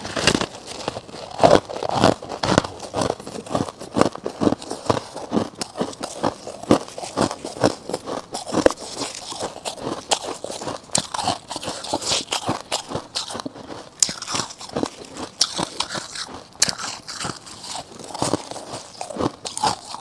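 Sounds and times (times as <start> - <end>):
frost being chewed with crunches: 0.0 - 20.0.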